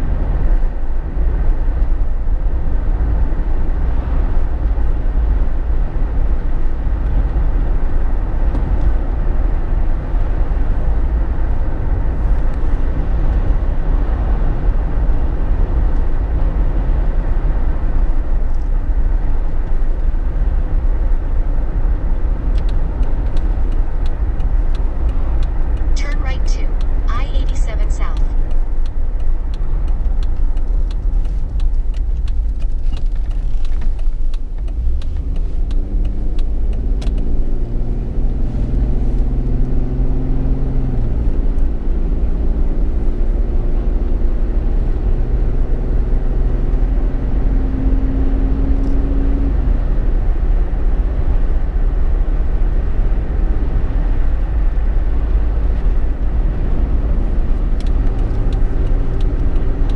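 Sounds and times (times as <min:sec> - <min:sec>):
car engine drone: 0:00.0 - 0:59.9
road rumble inside car: 0:00.0 - 0:59.9.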